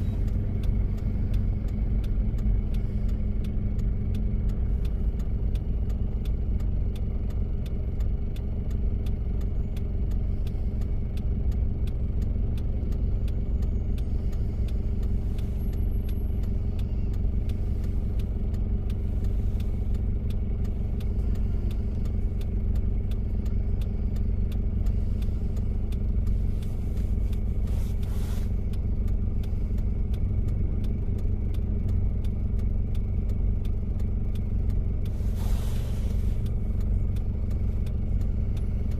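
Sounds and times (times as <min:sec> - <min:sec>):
diesel engine while driving: 0:00.0 - 0:38.9
road noise: 0:00.0 - 0:38.9.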